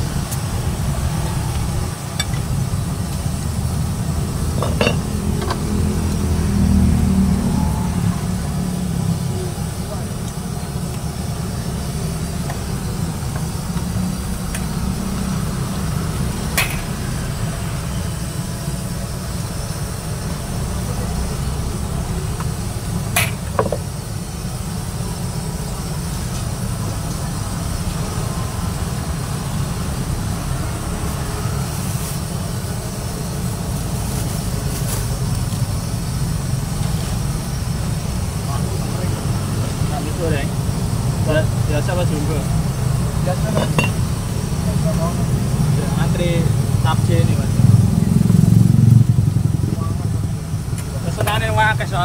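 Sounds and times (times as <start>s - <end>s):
gas burner roar: 0.0s - 52.0s.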